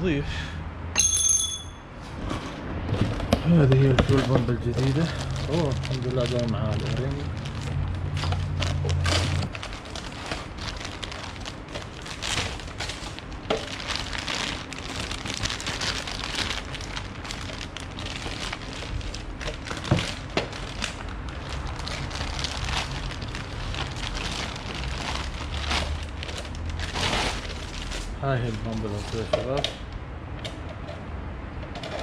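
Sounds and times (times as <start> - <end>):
crackling rustling handling noise: 2.0 - 32.0.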